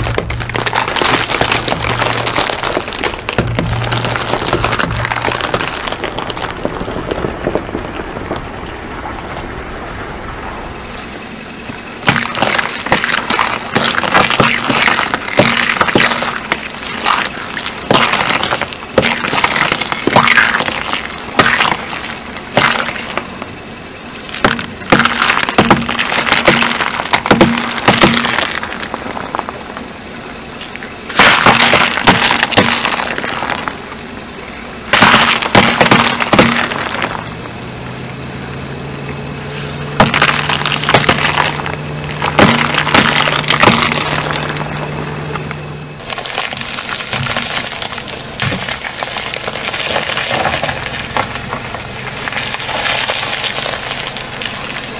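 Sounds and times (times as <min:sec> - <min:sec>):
eggshells cracking under tyre: 0:00.0 - 0:09.2, 0:11.0 - 0:37.4, 0:39.6 - 0:54.9.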